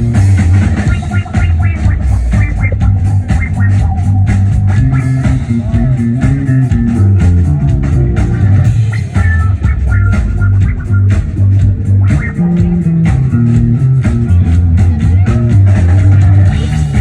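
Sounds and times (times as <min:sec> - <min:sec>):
bass guitar: 0:00.0 - 0:17.0
drum beat: 0:00.0 - 0:17.0
electric guitar: 0:00.0 - 0:17.0.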